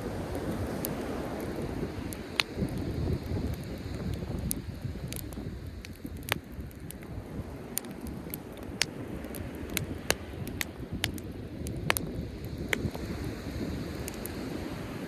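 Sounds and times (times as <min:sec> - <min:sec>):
campfire crackling and popping: 0:00.0 - 0:15.0
surf rumble: 0:00.0 - 0:15.0
wind: 0:00.0 - 0:15.0.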